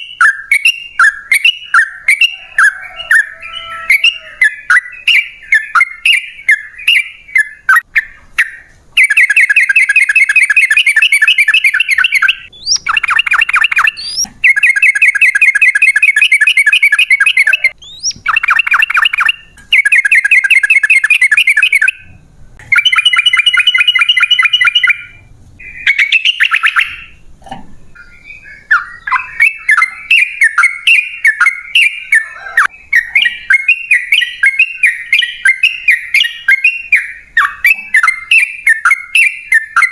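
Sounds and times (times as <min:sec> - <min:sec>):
bulbul singing with trills: 0:00.0 - 0:27.2, 0:27.8 - 0:39.9.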